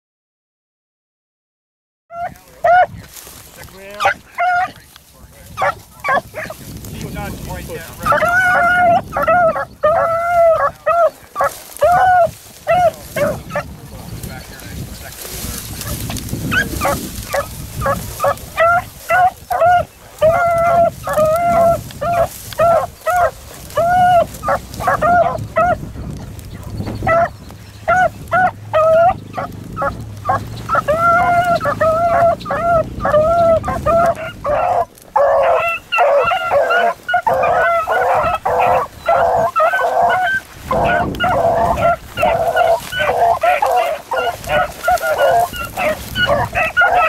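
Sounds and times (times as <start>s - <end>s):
dogs baying: 2.1s - 3.0s, 3.8s - 4.8s, 5.5s - 6.6s, 7.9s - 14.5s, 15.2s - 47.0s.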